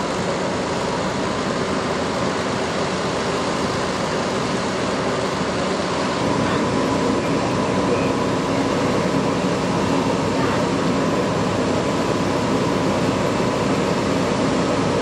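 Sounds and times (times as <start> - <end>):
faint constant whine: 0.0 - 15.0
fire engine running: 0.0 - 15.0.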